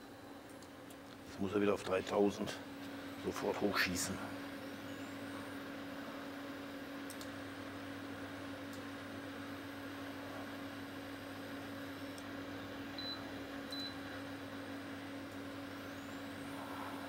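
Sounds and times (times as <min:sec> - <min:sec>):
electrical hum and fan noise: 0:00.0 - 0:17.0.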